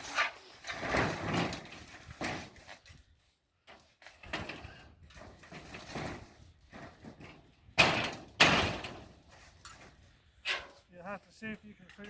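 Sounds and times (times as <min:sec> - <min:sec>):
tin roofing scraping and knocking: 0:00.0 - 0:10.9.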